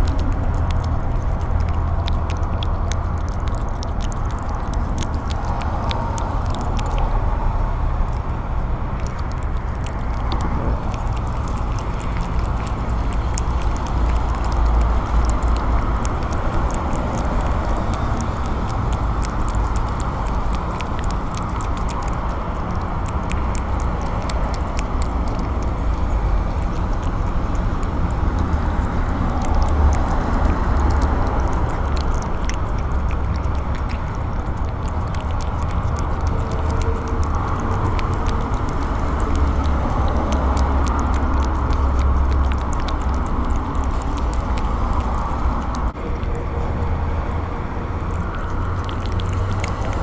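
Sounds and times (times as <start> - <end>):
cat chewing wet food: 0.0 - 50.0
steady low rumble: 0.0 - 50.0.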